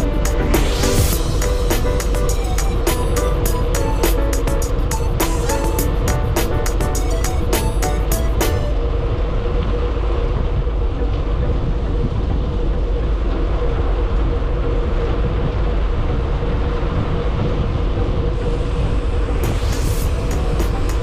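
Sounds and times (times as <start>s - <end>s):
constant hum: 0.0s - 21.0s.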